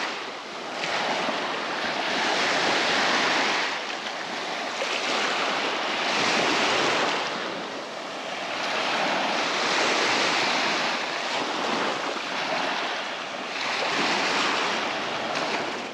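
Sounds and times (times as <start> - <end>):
surf washing onto beach: 0.0 - 15.9
wind on microphone: 0.0 - 15.9.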